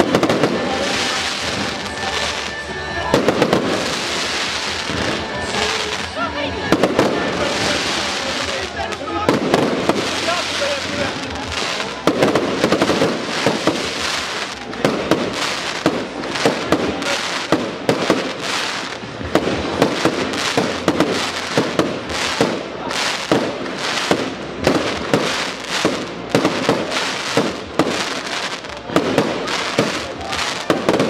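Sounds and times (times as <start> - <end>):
fireworks crackle: 0.0 - 31.0
fireworks shells bursting: 0.0 - 31.0.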